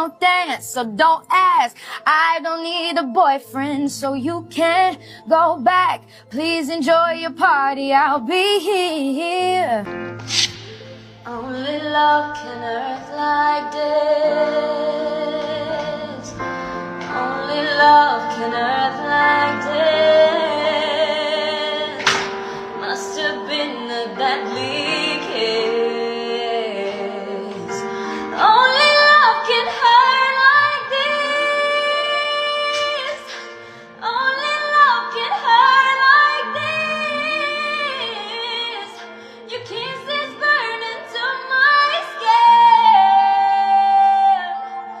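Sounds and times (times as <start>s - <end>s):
woman singing with vibrato: 0.0s - 10.0s, 11.2s - 45.0s
steady musical accompaniment: 9.0s - 45.0s.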